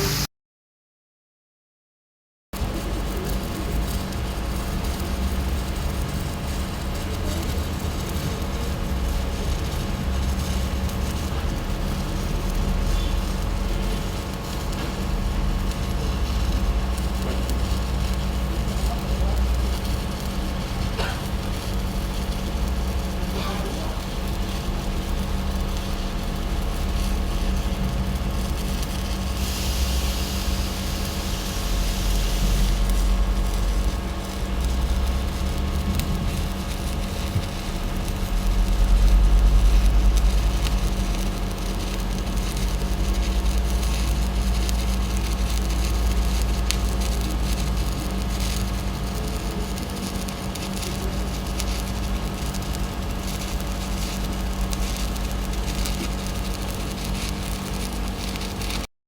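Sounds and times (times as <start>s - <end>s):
welding arc crackling and hissing: 0.0s - 0.3s, 2.6s - 58.9s
welding machine hum: 0.0s - 0.3s, 2.6s - 58.9s.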